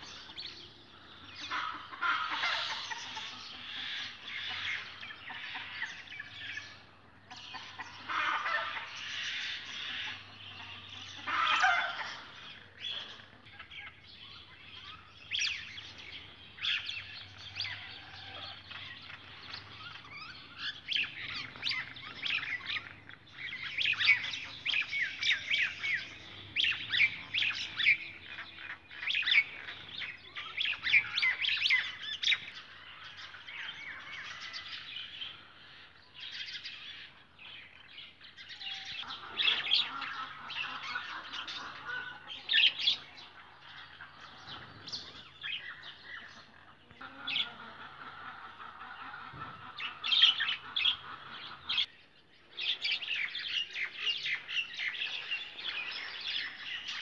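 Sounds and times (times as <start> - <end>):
harsh low bird calls: 0.0 - 57.0
small birds chirping: 0.0 - 57.0.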